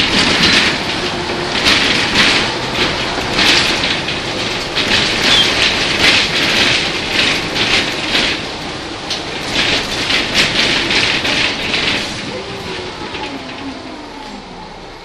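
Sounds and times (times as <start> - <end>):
rattling and clatter: 0.0 - 13.8
bus engine rumble: 0.0 - 15.0.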